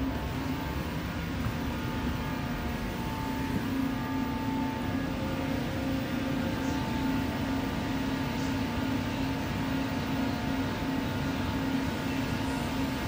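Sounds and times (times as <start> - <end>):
metro train hum and rumble: 0.0 - 13.0.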